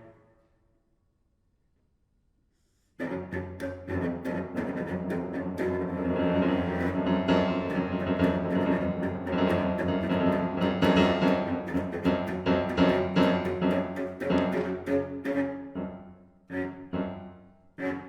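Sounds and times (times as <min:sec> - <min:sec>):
bowed strings: 0:03.0 - 0:18.0.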